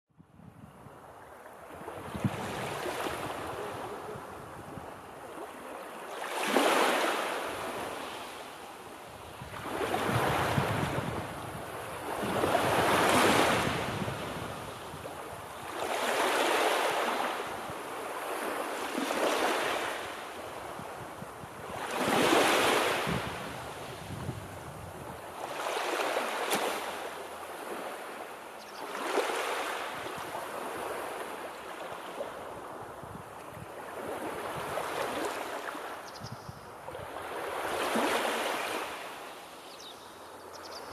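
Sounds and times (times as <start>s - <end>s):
ocean waves breaking: 1.4s - 21.0s, 21.6s - 24.3s, 25.2s - 32.8s, 33.7s - 36.0s, 37.0s - 39.5s.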